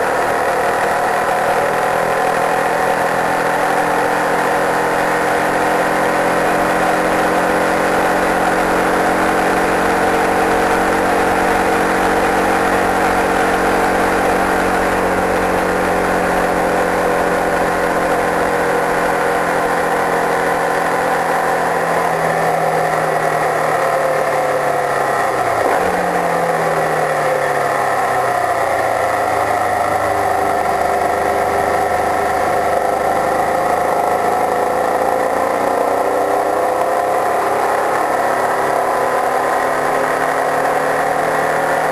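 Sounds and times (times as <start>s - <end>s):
racing car engine at high revs: 0.0s - 41.9s
road noise: 0.0s - 41.9s.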